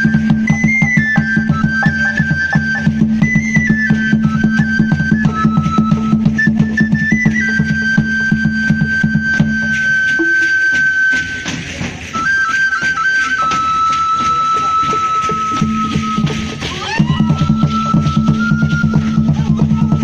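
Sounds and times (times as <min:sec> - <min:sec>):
fast drumming: 0:00.0 - 0:20.0
flute playing long notes: 0:00.0 - 0:20.0.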